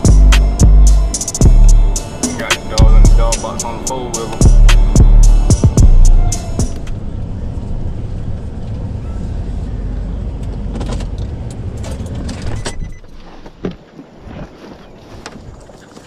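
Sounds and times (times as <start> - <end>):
truck engine rumble: 0.0 - 13.2.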